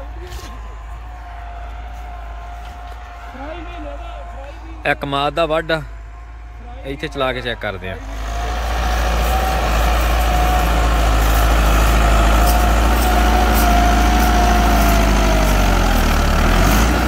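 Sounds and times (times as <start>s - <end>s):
tractor diesel engine under load: 1.9s - 17.0s.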